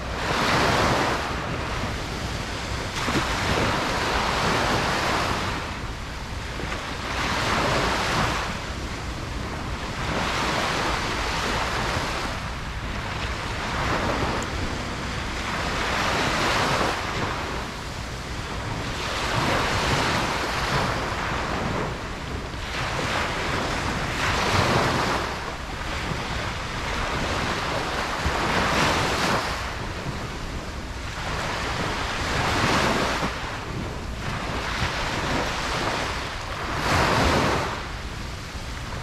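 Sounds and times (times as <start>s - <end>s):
ocean waves breaking on beach: 0.0s - 39.0s.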